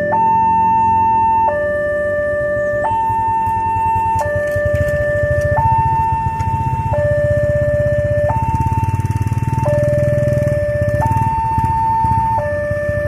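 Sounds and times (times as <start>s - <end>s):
two-tone warning siren: 0.0s - 13.0s.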